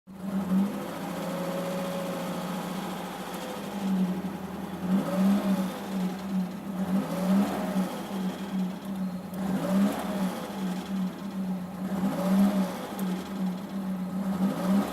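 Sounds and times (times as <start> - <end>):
car engine revving: 0.2 - 14.9.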